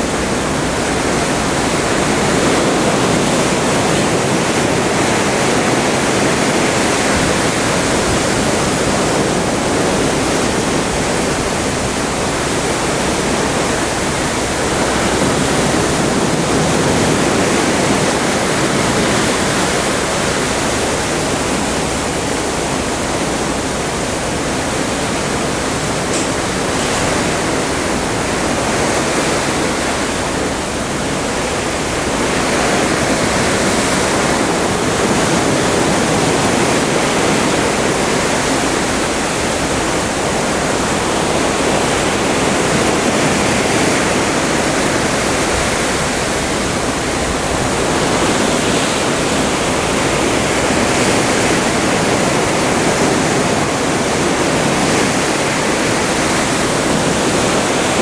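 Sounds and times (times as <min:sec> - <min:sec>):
sea water rushing past ship: 0:00.0 - 0:58.0.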